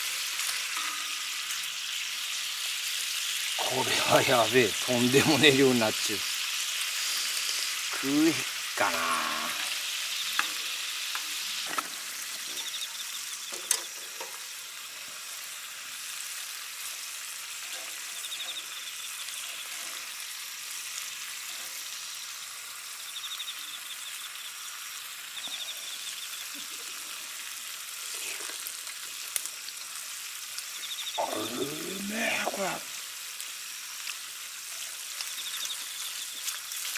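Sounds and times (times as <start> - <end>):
insects trilling: 0.0 - 36.9
meat sizzling as it fries: 0.0 - 36.9.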